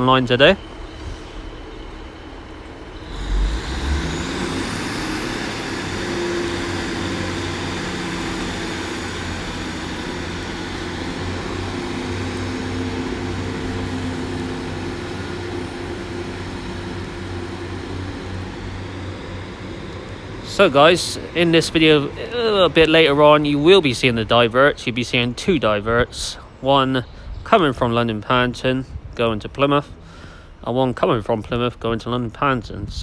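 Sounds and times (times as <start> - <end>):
high engine whine: 0.0 - 33.0
train diesel engines throttling up: 0.0 - 33.0.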